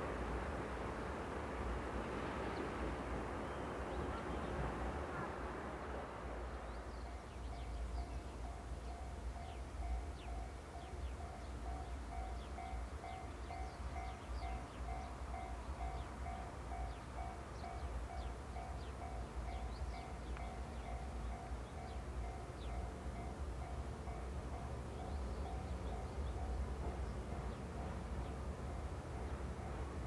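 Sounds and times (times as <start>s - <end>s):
passing train running: 0.0s - 30.0s.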